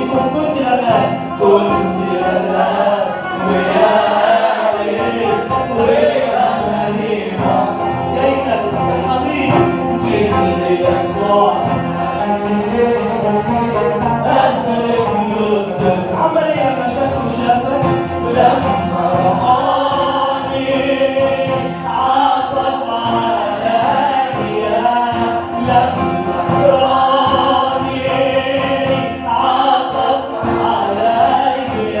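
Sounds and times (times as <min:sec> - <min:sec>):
choir singing a hymn: 0:00.0 - 0:32.0
instrumental accompaniment: 0:00.0 - 0:32.0.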